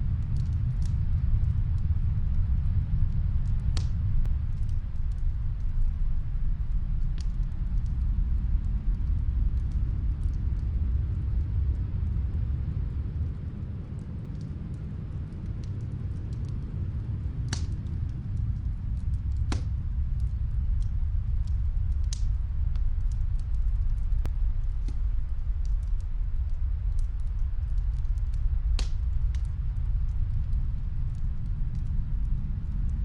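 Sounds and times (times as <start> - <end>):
snowstorm wind rumbling: 0.0 - 33.0
wood fire crackling: 0.0 - 33.0.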